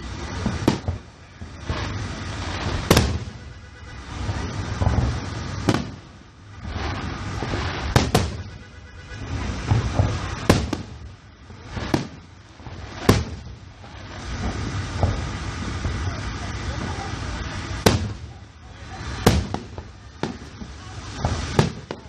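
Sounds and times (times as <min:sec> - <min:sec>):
firework shells bursting: 0:00.0 - 0:22.0.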